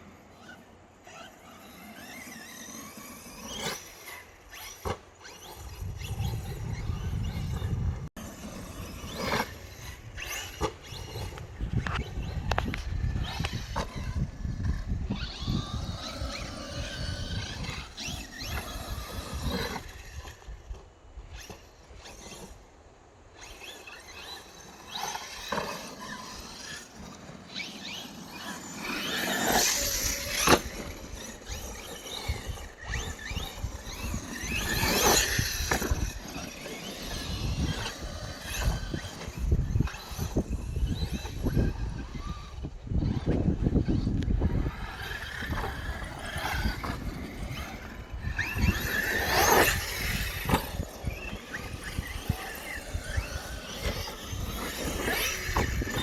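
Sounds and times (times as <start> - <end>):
electric motors whining: 0.0 - 56.0.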